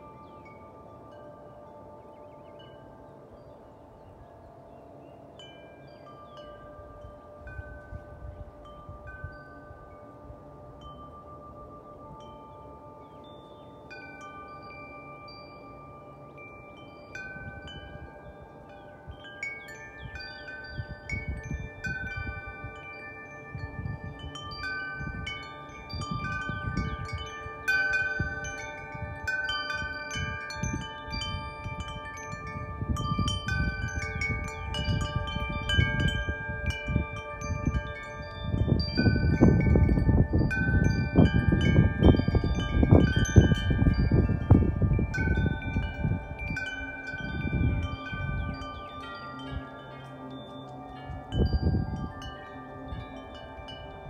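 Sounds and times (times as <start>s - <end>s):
metal wind chime ringing: 0.0s - 54.0s
wind rumbling on microphone: 5.8s - 14.5s, 16.7s - 54.0s.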